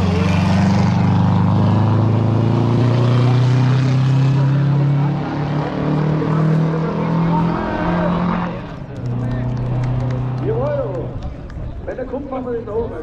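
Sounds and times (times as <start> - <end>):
race car engine running hard: 0.0 - 11.4.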